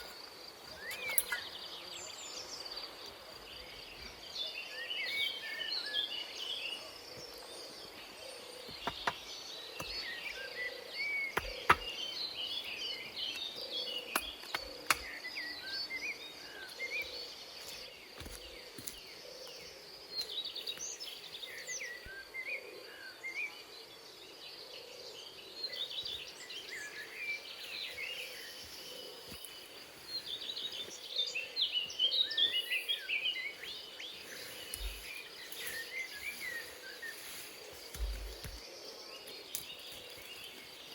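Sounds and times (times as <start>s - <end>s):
birds chirping and calling: 0.0s - 23.2s, 25.7s - 40.9s.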